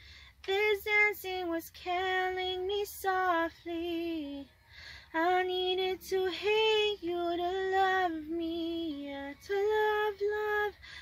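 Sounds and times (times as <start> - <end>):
woman singing unaccompanied: 0.4 - 4.5, 5.1 - 11.0.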